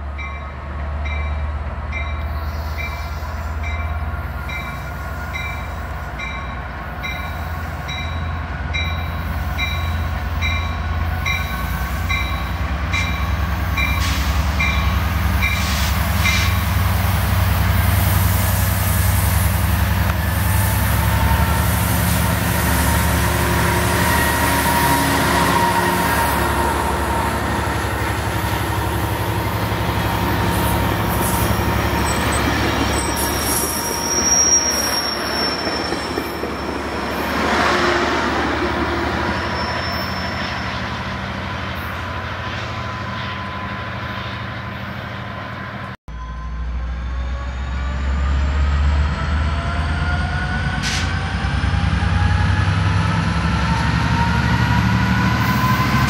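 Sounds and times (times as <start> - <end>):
diesel locomotive engine drone: 0.0 - 56.0
passenger coaches rolling by: 0.0 - 56.0.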